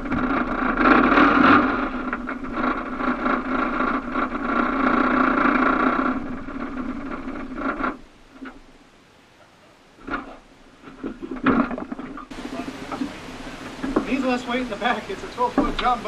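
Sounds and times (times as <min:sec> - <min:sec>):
outboard motor running: 0:00.0 - 0:08.7, 0:10.0 - 0:16.0.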